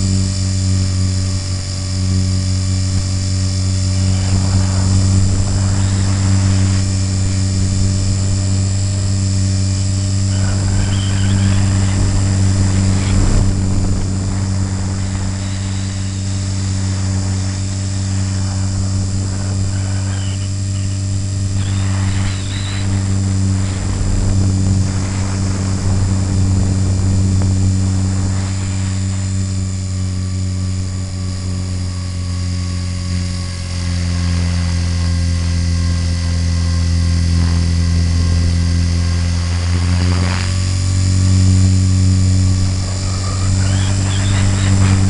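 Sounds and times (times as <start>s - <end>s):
model helicopter motor hum: 0.0s - 45.0s
wind noise rushes: 0.0s - 45.0s.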